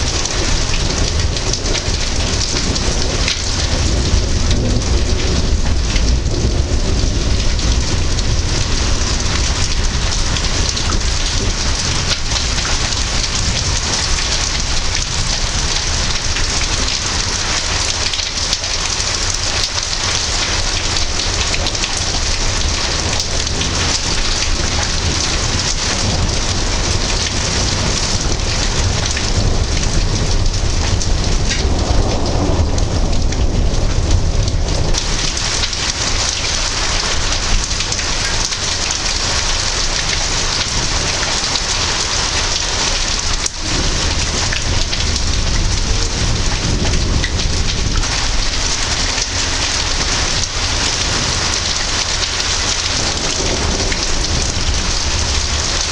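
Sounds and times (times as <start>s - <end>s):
heavy rain falling: 0.0s - 55.9s
thunder rumbling: 0.0s - 55.9s.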